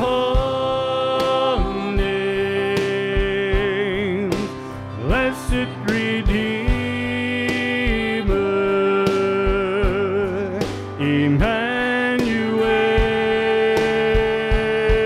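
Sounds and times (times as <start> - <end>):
acoustic guitar: 0.0 - 15.0
drum kit: 0.0 - 15.0
man singing long held notes: 0.0 - 15.0.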